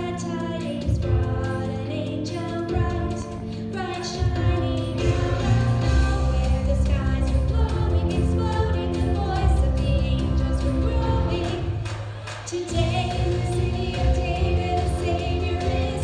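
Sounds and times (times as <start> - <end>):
woman singing into microphone: 0.0 - 16.0.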